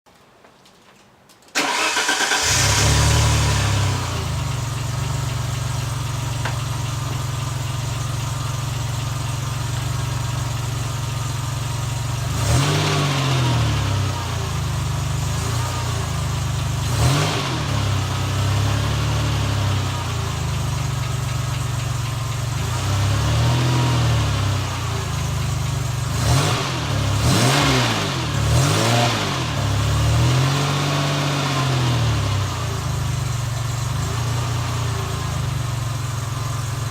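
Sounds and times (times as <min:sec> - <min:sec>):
car engine idling and revving: 0:01.7 - 0:36.9.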